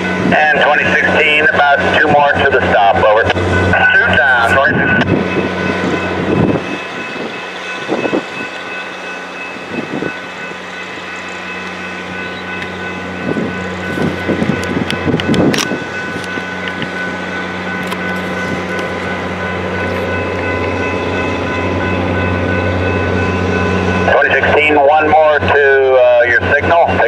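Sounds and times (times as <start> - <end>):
diesel locomotive engine hum: 0.0 - 27.0
high whine: 0.0 - 27.0.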